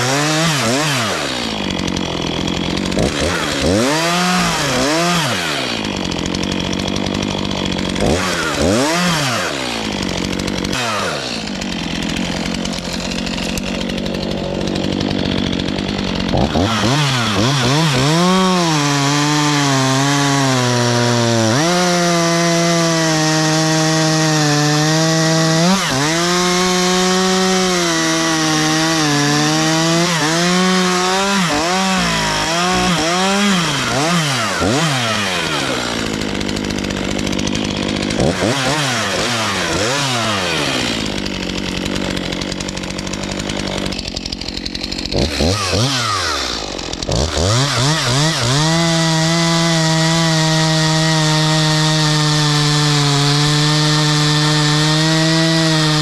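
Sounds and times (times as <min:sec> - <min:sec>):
chainsaw running at high revs: 0:00.0 - 0:56.0.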